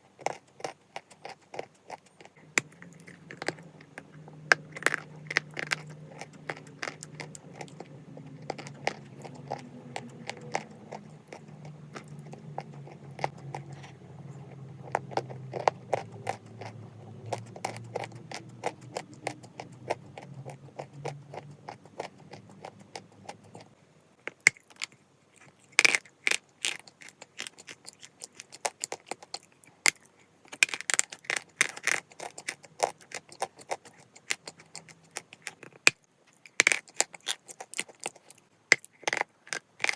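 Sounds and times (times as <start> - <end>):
low steady hum: 0.0 - 39.9
chalk being crunched and chewed: 0.2 - 23.7, 24.3 - 39.9.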